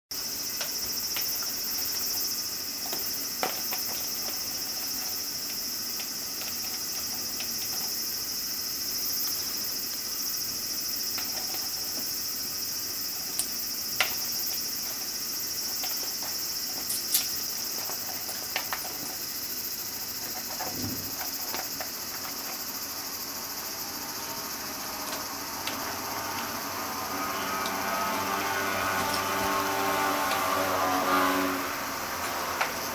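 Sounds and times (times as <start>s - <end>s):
steady high-pitched hiss: 0.1s - 32.9s.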